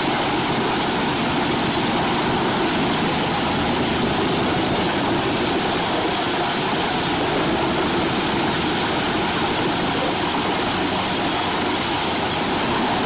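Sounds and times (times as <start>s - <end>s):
wood chipper running: 0.0s - 13.0s.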